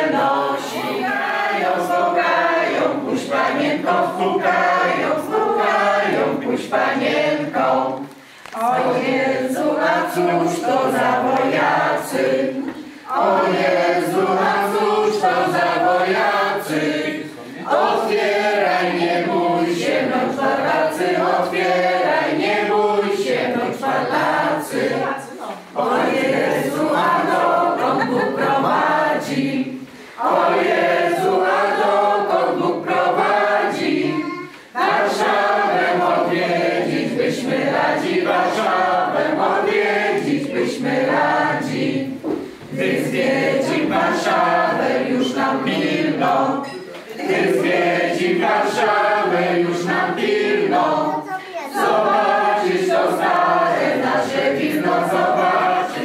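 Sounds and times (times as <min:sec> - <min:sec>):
group of people singing together: 0:00.0 - 0:56.0.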